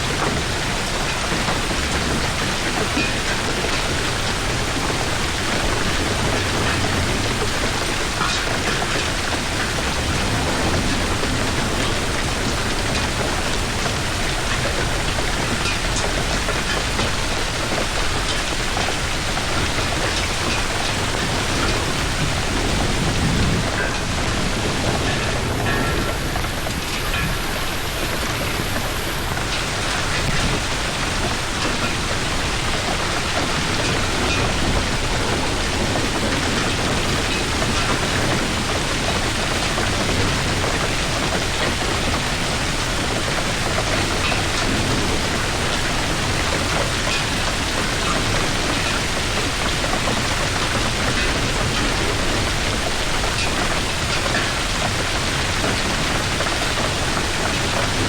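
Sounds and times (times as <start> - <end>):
rain and hail beating: 0.0 - 58.0
sharp hail impacts: 0.0 - 58.0.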